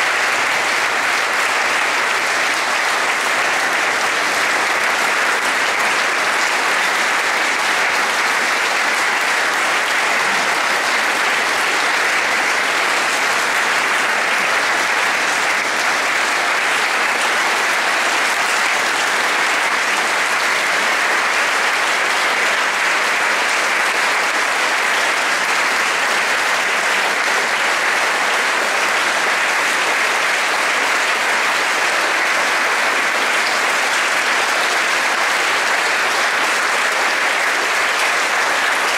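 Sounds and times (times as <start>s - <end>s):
large audience applause: 0.0s - 38.9s.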